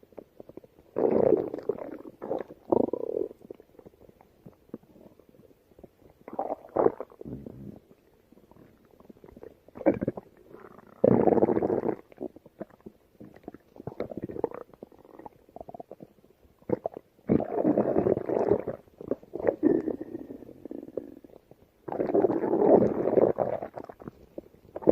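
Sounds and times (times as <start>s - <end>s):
stomach growling: 0.0s - 24.9s.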